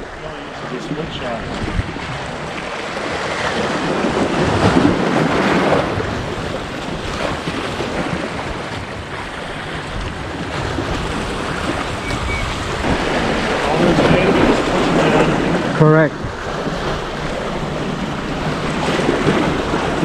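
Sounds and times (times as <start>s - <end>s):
waves washing: 0.0s - 20.0s
wind buffeting microphone: 0.0s - 20.0s.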